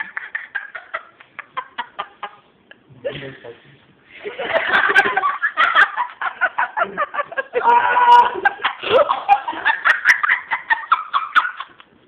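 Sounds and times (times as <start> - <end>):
people laughing hard: 0.0 - 2.5, 4.2 - 11.8.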